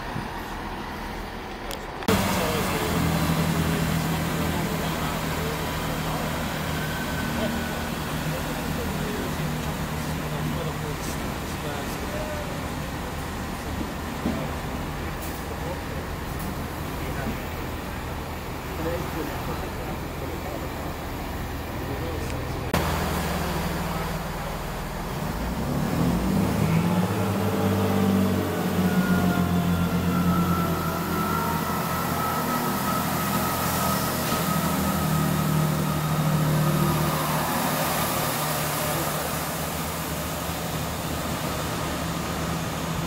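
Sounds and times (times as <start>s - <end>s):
diesel train engines accelerating: 0.0s - 43.0s
train transmission whine: 0.0s - 43.0s.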